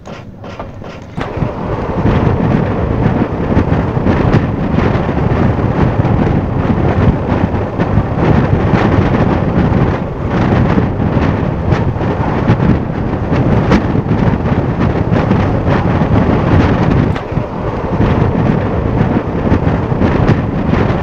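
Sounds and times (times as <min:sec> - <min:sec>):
moving train running noise: 0:00.0 - 0:21.0
wind buffeting microphone: 0:00.0 - 0:21.0.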